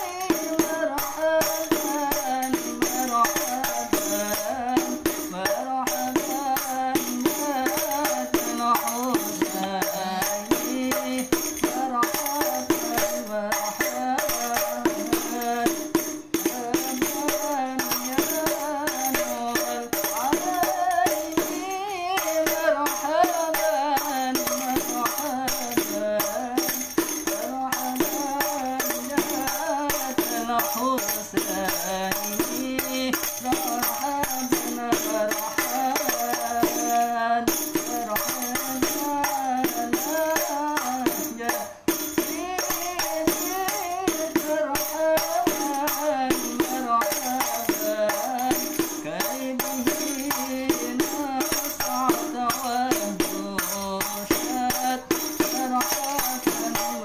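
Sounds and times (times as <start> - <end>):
frame drum struck by hand: 0.0 - 57.0
person singing: 0.0 - 57.0.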